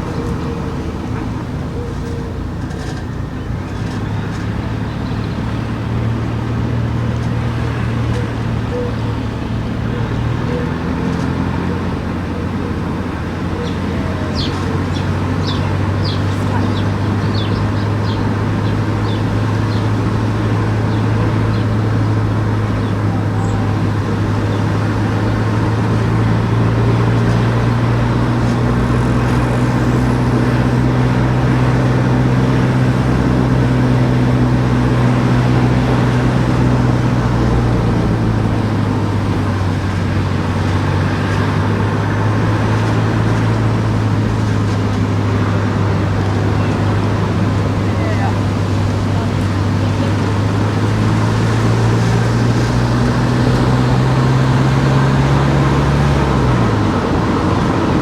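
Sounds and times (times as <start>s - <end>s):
car engine hum: 0.0s - 58.0s
tyre and road noise: 0.0s - 58.0s.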